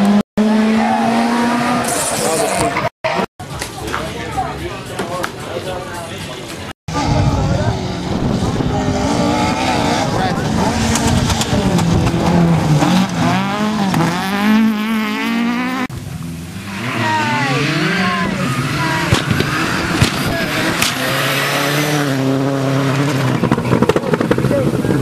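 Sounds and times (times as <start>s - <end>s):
rally car engines at full throttle: 0.0s - 5.4s, 6.6s - 25.0s.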